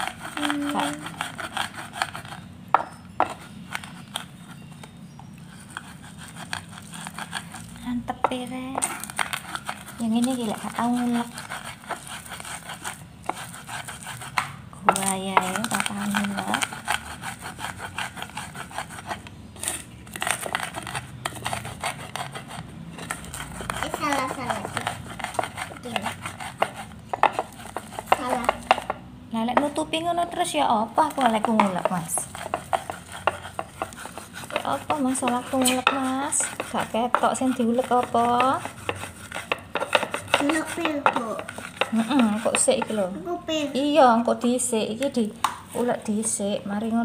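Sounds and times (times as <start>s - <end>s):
pestle knocking in clay mortar: 0.0s - 4.9s, 5.7s - 19.3s, 20.1s - 43.2s
stone pestle grinding in mortar: 0.0s - 47.0s.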